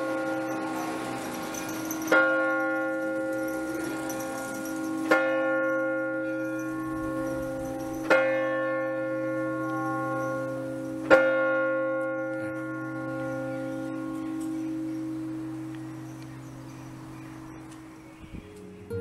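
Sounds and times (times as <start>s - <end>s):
large tower bell striking: 0.0s - 16.5s.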